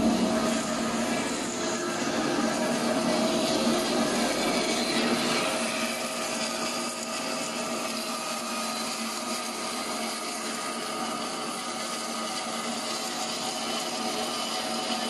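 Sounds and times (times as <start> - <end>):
faint motor hum: 0.0 - 15.0.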